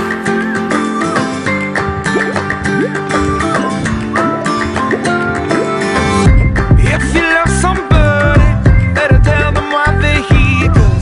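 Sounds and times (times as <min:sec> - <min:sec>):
plucked guitar over a beat: 0:00.0 - 0:11.0.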